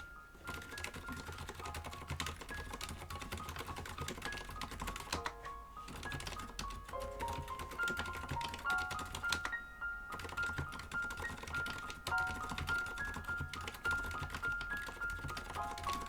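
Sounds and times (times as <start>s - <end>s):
bell-like background music: 0.0s - 16.0s
mechanical keyboard typing: 0.0s - 16.0s.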